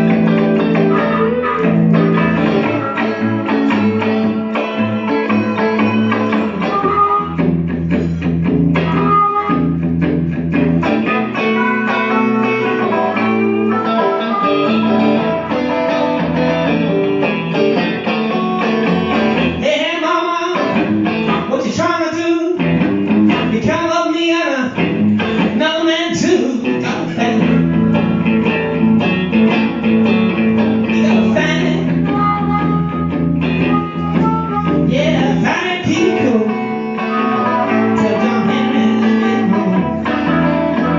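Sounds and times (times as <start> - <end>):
electric blues guitar: 0.0 - 40.9
lead guitar bending notes: 0.0 - 40.9.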